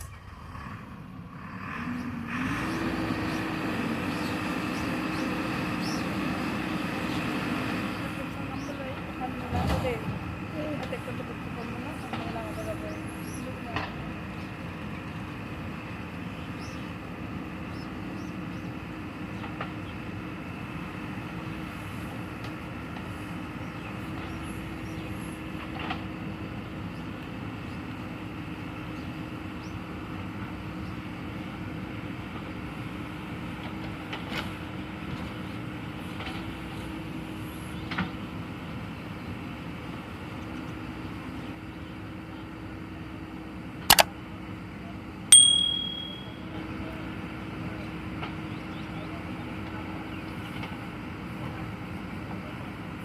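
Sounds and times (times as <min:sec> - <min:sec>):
heavy machine engine running: 0:00.0 - 0:45.3.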